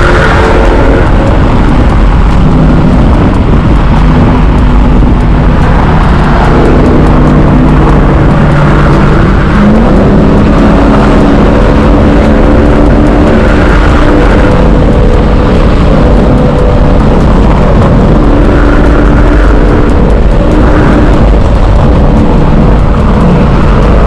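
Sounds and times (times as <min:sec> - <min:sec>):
car engine running hard: 0:00.0 - 0:24.0
steady rushing noise: 0:00.0 - 0:24.0.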